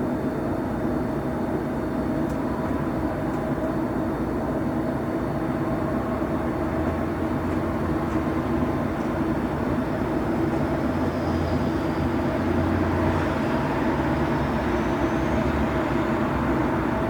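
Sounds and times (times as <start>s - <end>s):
train running with low rumble: 0.0s - 17.0s.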